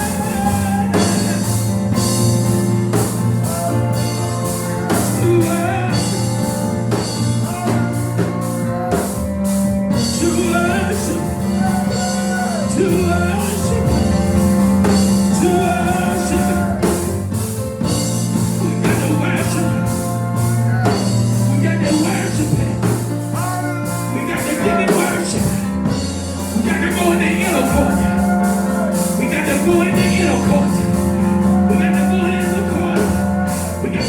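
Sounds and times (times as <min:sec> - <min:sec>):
person singing: 0:00.0 - 0:02.2, 0:03.0 - 0:34.0
church band playing gospel music: 0:00.0 - 0:34.0
drum kit steady beat: 0:00.0 - 0:34.0.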